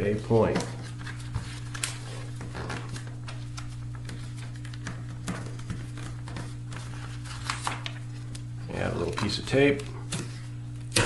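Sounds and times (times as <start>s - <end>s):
paper crinkling and rustling: 0.2s - 10.4s.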